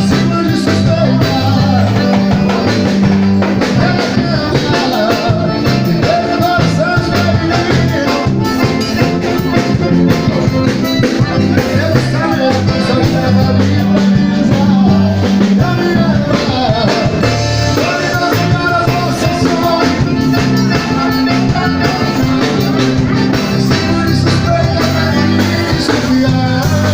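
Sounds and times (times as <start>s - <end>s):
bass guitar: 0.0s - 26.9s
drum kit: 0.0s - 26.9s
electric guitar: 0.0s - 26.9s
person singing: 0.0s - 26.9s.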